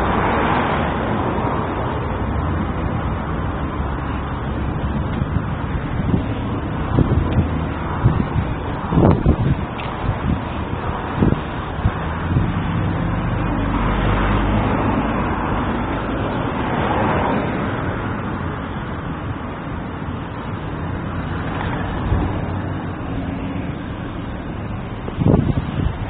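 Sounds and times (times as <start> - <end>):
passing traffic: 0.0 - 26.0.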